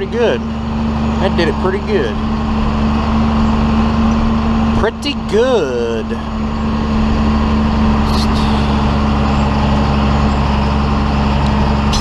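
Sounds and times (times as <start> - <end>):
tractor diesel engine humming: 0.0 - 12.0.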